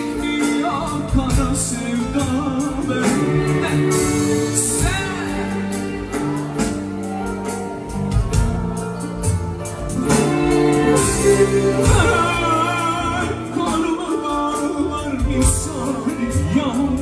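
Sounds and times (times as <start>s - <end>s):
man singing: 0.0s - 6.6s, 10.0s - 17.0s
live pop band: 0.0s - 17.0s.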